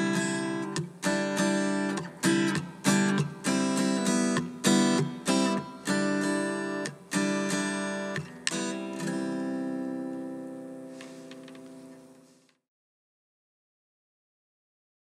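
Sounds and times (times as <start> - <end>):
acoustic guitar strumming: 0.0 - 12.4.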